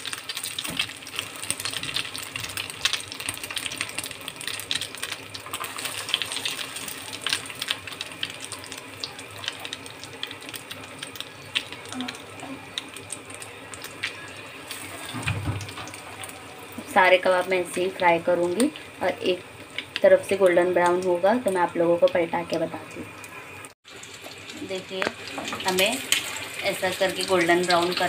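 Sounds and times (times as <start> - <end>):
frying sizzle with crackles: 0.0 - 28.0.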